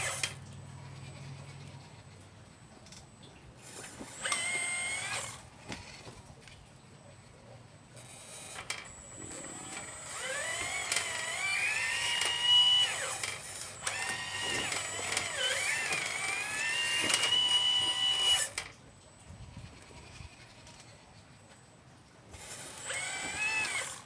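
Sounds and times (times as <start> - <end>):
model excavator electric motor whining: 0.0 - 18.8, 19.4 - 21.4, 22.2 - 24.0.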